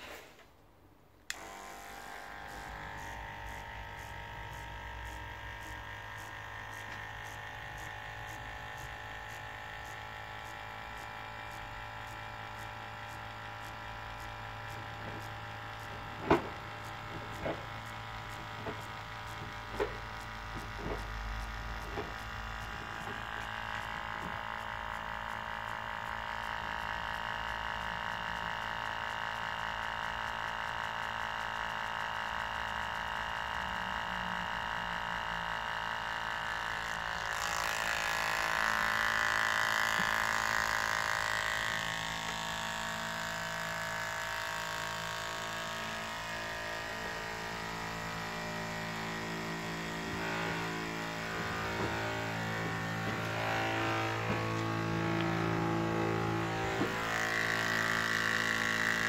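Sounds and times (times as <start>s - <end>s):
electric pump humming: 1.2s - 59.0s.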